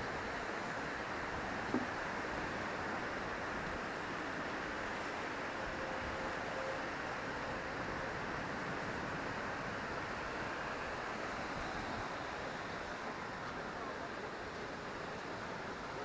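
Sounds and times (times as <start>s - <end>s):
rushing outdoor ambience: 0.0s - 16.0s.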